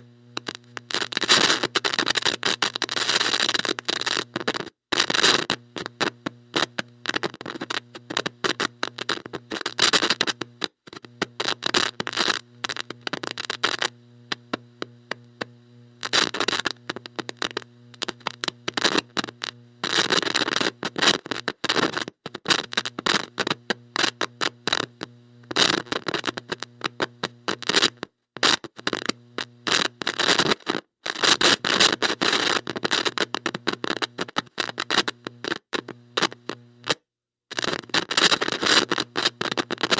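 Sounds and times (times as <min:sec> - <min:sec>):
static crackle and hiss: 0:00.0 - 0:39.9.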